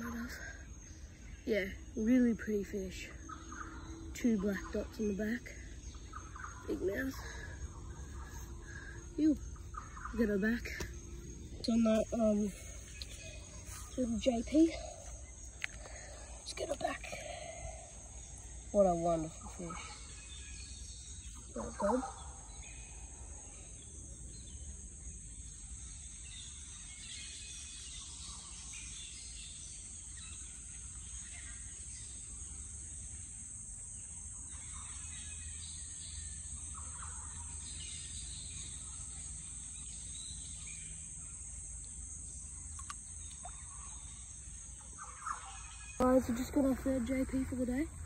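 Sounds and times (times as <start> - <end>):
faint bird chirps: 0.0 - 48.0
high-pitched insect drone: 0.0 - 48.0.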